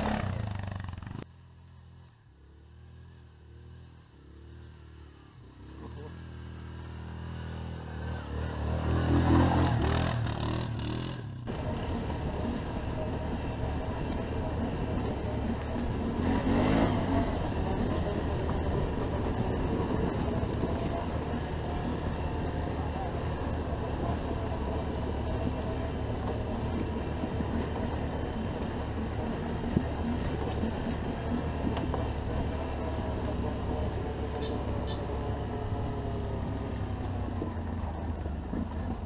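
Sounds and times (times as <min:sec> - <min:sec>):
atv engine running: 0:00.0 - 0:39.0
quad engine passing close: 0:00.0 - 0:39.0.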